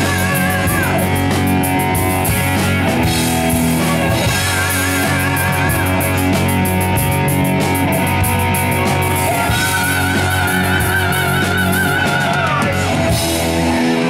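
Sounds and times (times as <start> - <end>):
heavy metal band playing: 0.0 - 14.0.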